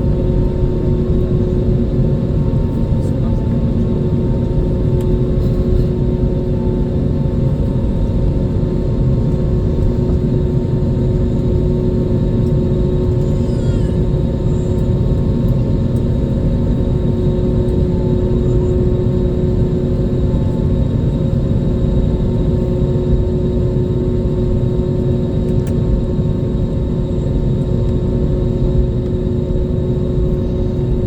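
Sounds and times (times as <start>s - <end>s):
constant hum: 0.0s - 31.0s
jet engine cabin rumble: 0.0s - 31.0s.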